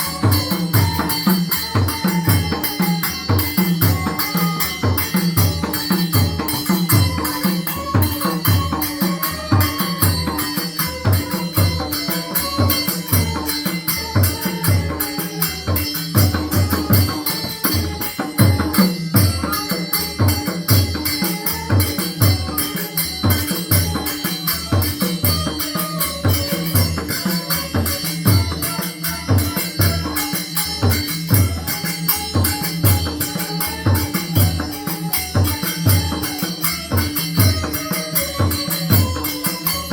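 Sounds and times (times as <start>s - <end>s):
high jingling beat: 0.0s - 39.9s.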